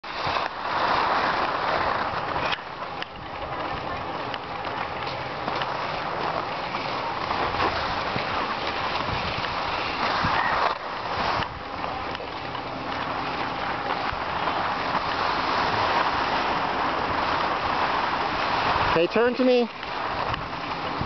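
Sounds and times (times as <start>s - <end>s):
skis scraping over snow: 0.0s - 21.0s.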